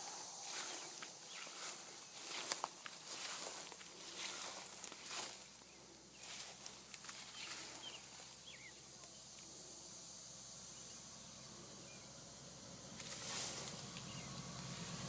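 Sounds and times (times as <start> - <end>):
faint bird chirps: 0.0 - 12.4
faint steady hiss: 0.0 - 15.0.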